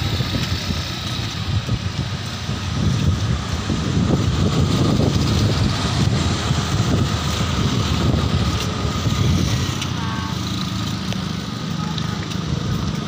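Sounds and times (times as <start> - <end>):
motorbike traffic passing: 0.0 - 13.0
wind buffeting microphone: 0.0 - 13.0.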